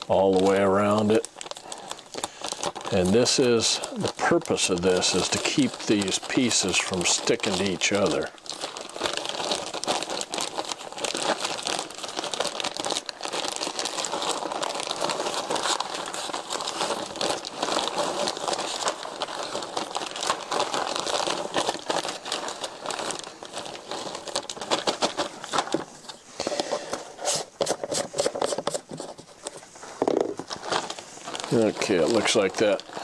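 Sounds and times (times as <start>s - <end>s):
plastic bag crinkling: 0.0s - 33.0s.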